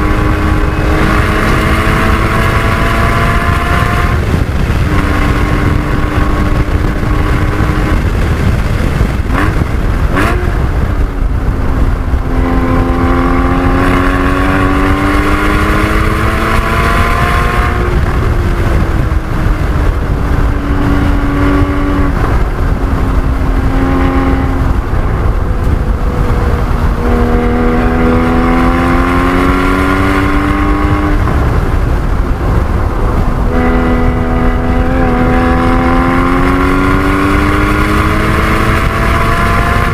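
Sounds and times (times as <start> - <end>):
car engine revving: 0.0 - 39.9
wind and road noise rumble: 0.0 - 39.9.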